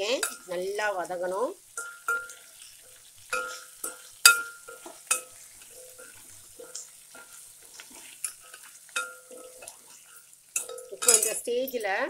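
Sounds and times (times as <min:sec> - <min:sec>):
ladle clanking against metal pan: 0:00.0 - 0:00.5, 0:01.8 - 0:02.6, 0:03.3 - 0:11.8
faint sizzle: 0:00.0 - 0:12.0.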